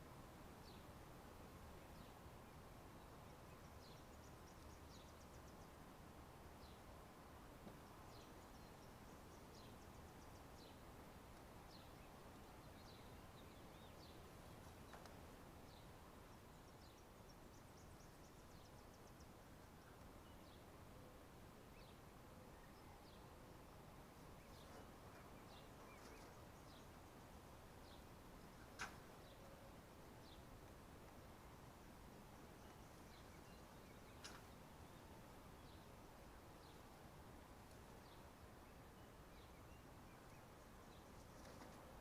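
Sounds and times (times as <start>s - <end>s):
steady low hiss: 0.0s - 42.0s
small birds chirping: 1.6s - 42.0s.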